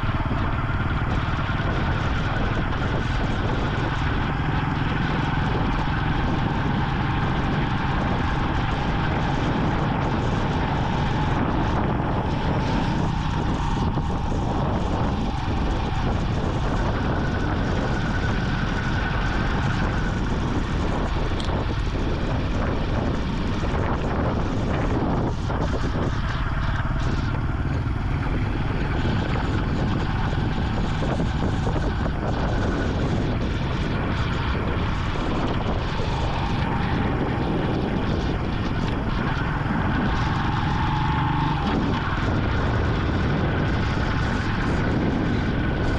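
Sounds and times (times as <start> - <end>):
faint whine: 0.0 - 45.9
motorcycle engine cruising: 0.0 - 45.9
wind and road noise hiss: 0.0 - 45.9.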